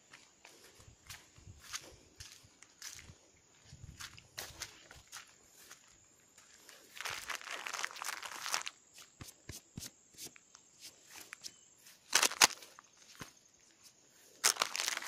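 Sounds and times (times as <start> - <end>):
footsteps on a dirt trail: 0.0 - 15.0
rustling of grass and leaves: 0.0 - 15.0.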